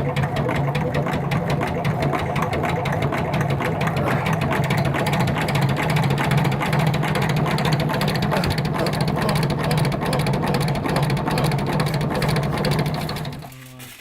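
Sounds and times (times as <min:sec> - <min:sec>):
hand-cranked extractor whirring: 0:00.0 - 0:14.0.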